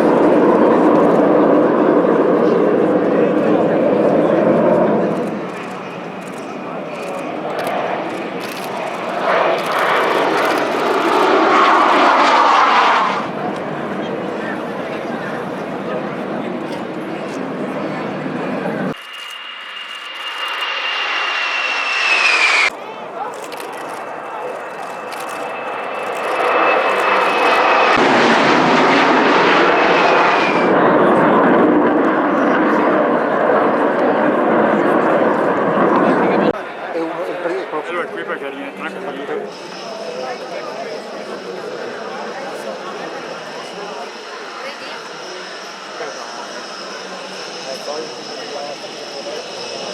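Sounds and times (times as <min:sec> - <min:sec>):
high-pitched engine whine: 0:00.0 - 0:36.6, 0:39.5 - 0:49.9
jet flying past: 0:00.0 - 0:37.1, 0:38.9 - 0:49.9.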